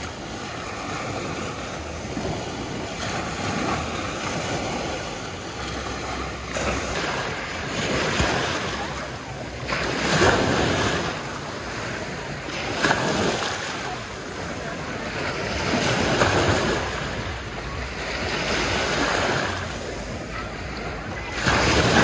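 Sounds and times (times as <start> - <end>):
small waves washing over sand: 0.0 - 22.0.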